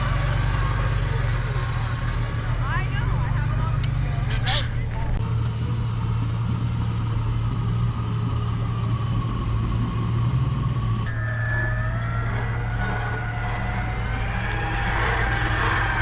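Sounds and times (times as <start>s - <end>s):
off-road vehicle engine running: 0.0s - 16.0s
wavering whine: 0.0s - 16.0s.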